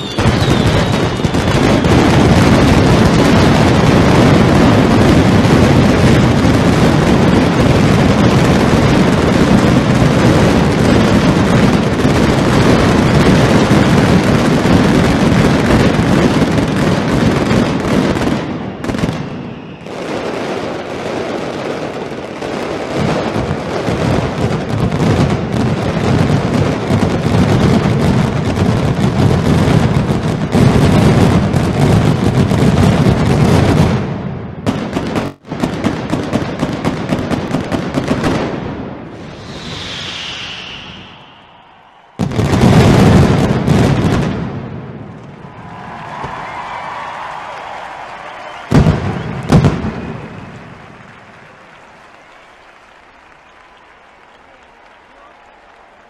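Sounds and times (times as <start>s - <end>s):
firecrackers barrage: 0.0s - 56.0s.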